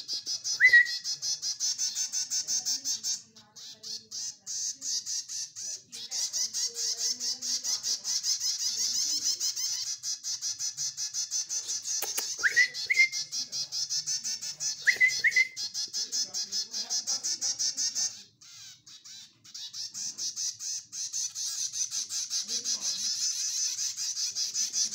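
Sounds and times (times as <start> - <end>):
chicks chirping: 0.0 - 24.9.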